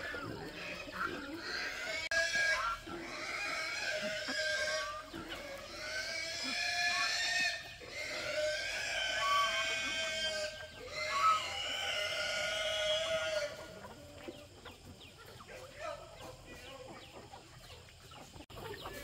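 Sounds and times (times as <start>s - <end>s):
pigs squealing: 0.0s - 18.0s.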